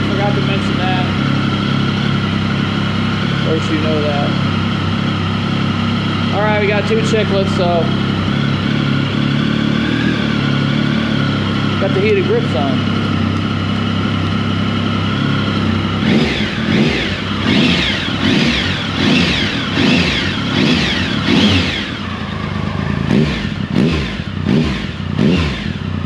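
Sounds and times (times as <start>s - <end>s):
motorcycle engine idling: 0.0s - 26.0s
motorcycle engine revving: 0.0s - 26.0s.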